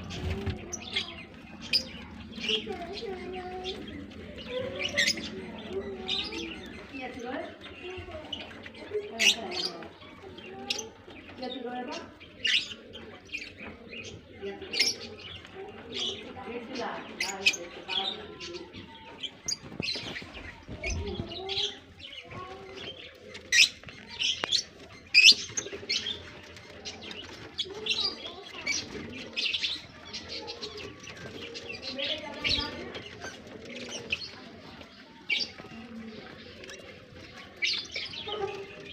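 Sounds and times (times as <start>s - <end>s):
birds chirping: 0.0s - 38.9s
doves cooing: 0.0s - 38.9s.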